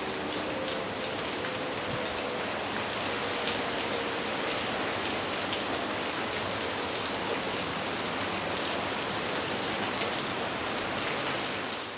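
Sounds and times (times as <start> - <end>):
steady rain falling: 0.0 - 11.9.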